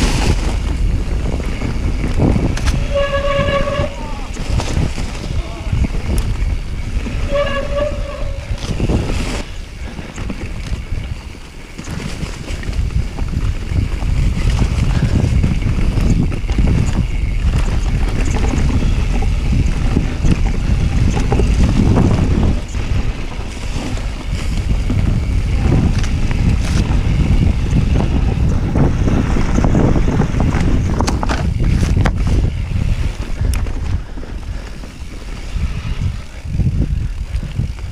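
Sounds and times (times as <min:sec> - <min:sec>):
bike knocks and rattles: 0:00.0 - 0:37.9
bike tyres rumbling on dirt: 0:00.0 - 0:37.9
wind buffeting microphone: 0:00.0 - 0:37.9.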